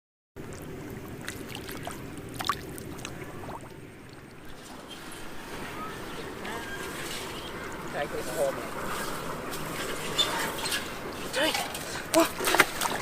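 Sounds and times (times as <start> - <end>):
steady low rumble: 0.4 - 13.0
water sloshing and splashing: 0.4 - 13.0.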